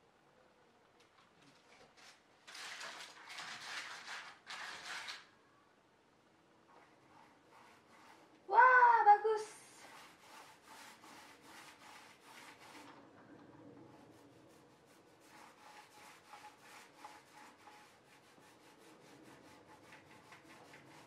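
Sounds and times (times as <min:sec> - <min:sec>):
paint roller rubbing on wall: 0:01.6 - 0:05.3, 0:06.7 - 0:08.8, 0:09.6 - 0:21.0.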